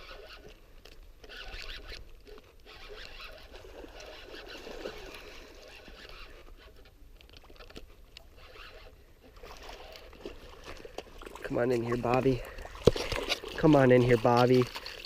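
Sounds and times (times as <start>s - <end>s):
light ticks and rustles: 0.0s - 15.0s
water splashing around a kayak: 0.0s - 15.0s.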